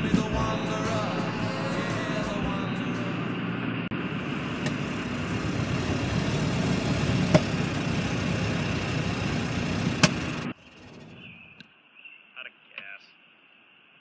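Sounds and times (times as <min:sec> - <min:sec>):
car engine and road rumble: 0:00.0 - 0:11.7.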